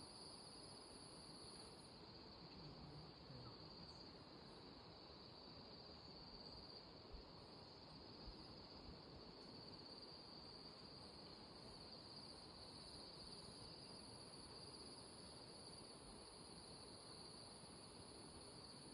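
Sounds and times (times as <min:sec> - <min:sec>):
insect chorus trilling: 0:00.0 - 0:18.9.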